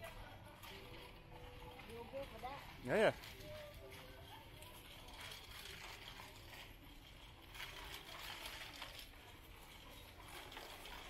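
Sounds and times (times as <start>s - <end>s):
indistinct store hubbub: 0.0s - 11.0s
shopping cart on tiled floor: 0.0s - 11.0s.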